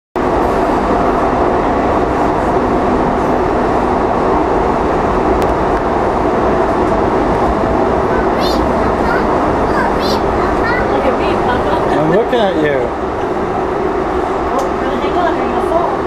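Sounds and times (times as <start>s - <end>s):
light-rail car rumbling on track: 0.2s - 16.0s.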